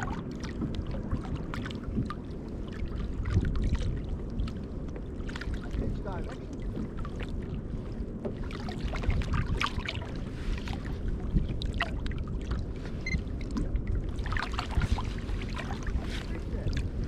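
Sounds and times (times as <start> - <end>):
low rumble of wind and water: 0.0 - 17.0
water splashing against kayak hull: 0.0 - 17.0.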